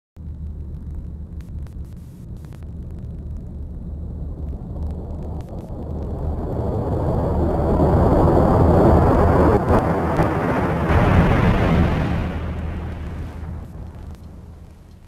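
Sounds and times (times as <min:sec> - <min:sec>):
low rumbling roar: 0:00.2 - 0:15.0.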